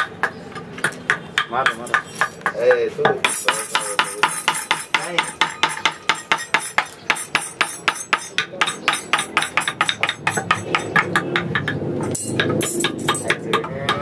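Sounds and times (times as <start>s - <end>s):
mallet tapping chisel into wood: 0.0s - 14.0s.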